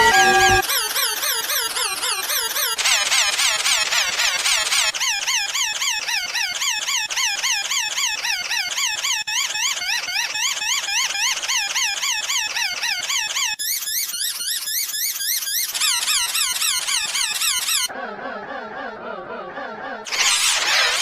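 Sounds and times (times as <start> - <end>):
high squeaky warbling wheeze: 0.0 - 17.9, 20.1 - 21.0.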